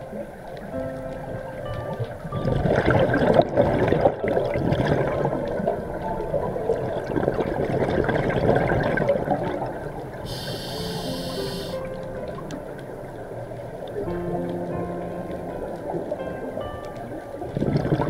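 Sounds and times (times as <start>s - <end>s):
underwater bubbles gurgling: 0.0s - 18.0s.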